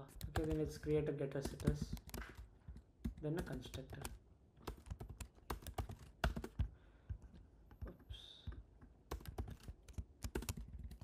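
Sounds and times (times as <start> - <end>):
keyboard keys clicking: 0.2 - 7.2, 7.8 - 11.0.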